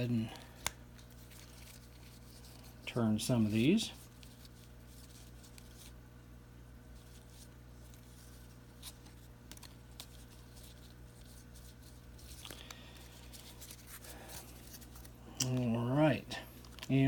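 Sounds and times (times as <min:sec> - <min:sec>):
steady low hum: 0:00.0 - 0:17.0
trading cards handled: 0:00.2 - 0:06.0, 0:06.9 - 0:17.0.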